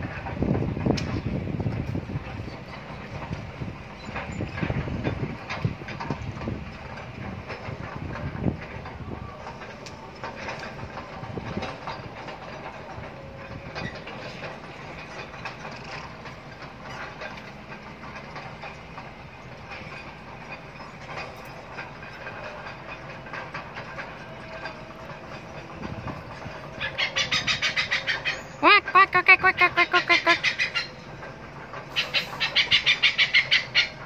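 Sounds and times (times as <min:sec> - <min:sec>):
outdoor rumble and hiss: 0:00.0 - 0:34.0.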